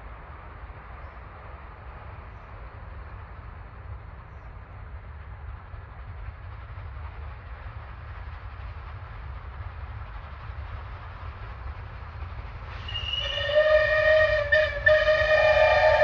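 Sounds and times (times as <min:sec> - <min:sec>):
steam locomotive rumble: 0:00.0 - 0:16.0.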